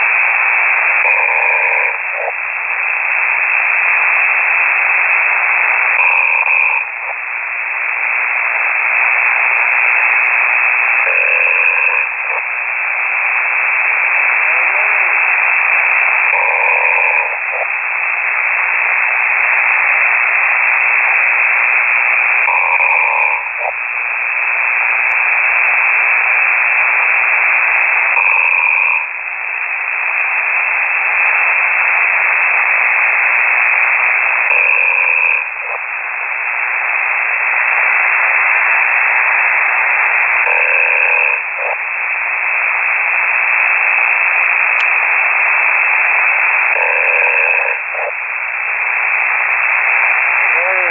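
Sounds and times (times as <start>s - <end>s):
person snoring over radio: 0.0s - 35.9s, 37.3s - 50.9s
radio hiss: 0.0s - 50.9s.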